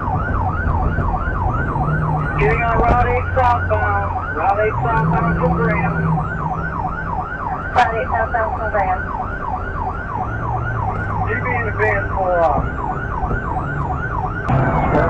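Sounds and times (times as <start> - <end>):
low car hum: 0.0 - 15.0
police siren yelping: 0.0 - 15.0.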